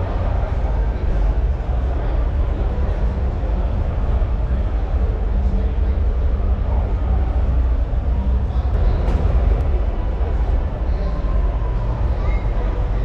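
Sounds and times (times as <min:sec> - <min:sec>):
murmur of voices: 0:00.0 - 0:13.0
steady low rumble: 0:00.0 - 0:13.0.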